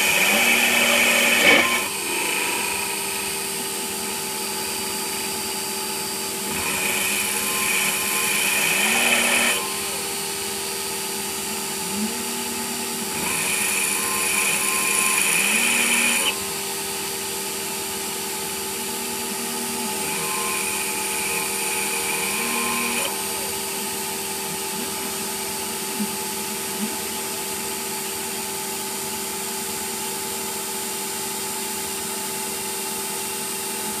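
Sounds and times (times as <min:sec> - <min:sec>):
lathe machine hum: 0:00.0 - 0:34.0
lathe tool cutting: 0:00.0 - 0:34.0.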